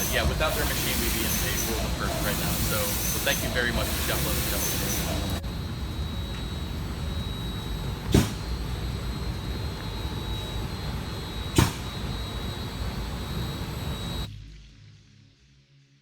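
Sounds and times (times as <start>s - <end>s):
spray machine humming and whining: 0.0s - 14.3s.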